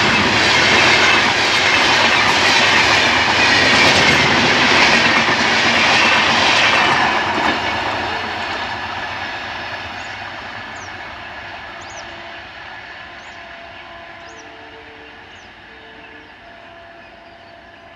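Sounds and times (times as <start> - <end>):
train wheels rattling over rail joints: 0.0 - 17.9.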